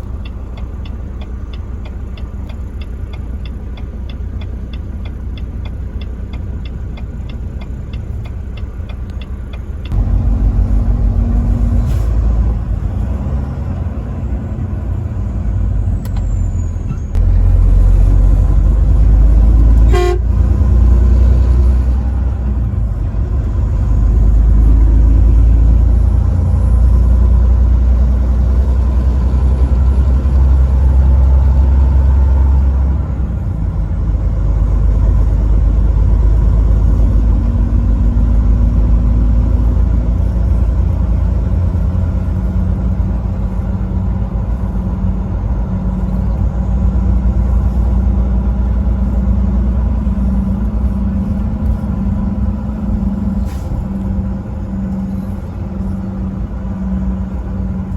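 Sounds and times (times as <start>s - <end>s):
truck engine and road rumble: 0.0s - 57.9s.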